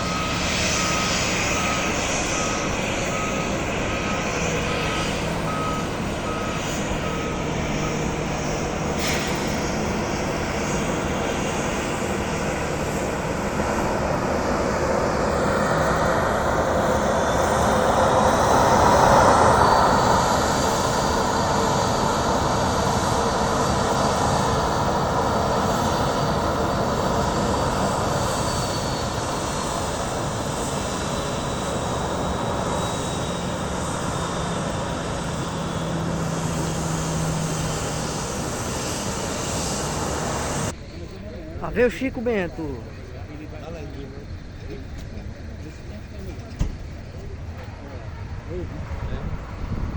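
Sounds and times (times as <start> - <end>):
high turbine whine: 0.0 - 49.9
jet engines roaring: 0.0 - 49.9.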